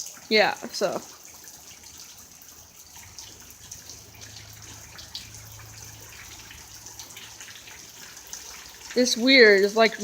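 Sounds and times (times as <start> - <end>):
rain patter: 0.0 - 10.0.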